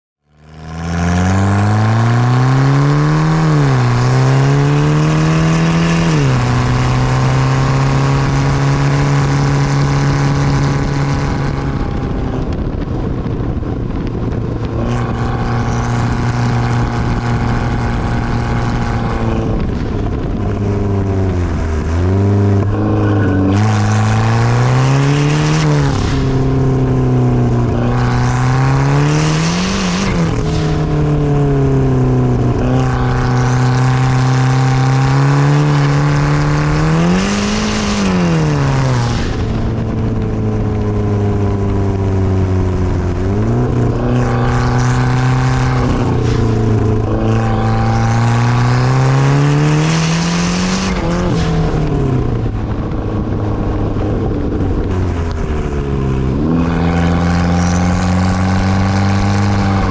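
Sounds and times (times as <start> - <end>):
car engine revving: 0.2 - 59.9.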